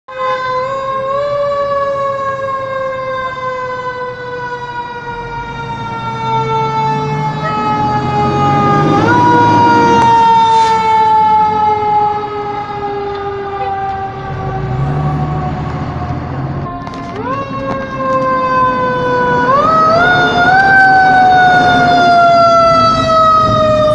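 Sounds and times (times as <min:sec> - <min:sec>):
fire engine engines rumbling: 0:00.1 - 0:23.9.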